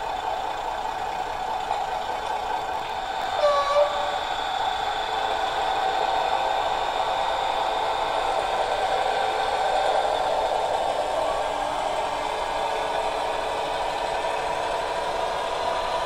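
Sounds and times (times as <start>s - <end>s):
model train engine sound: 0.0s - 16.0s.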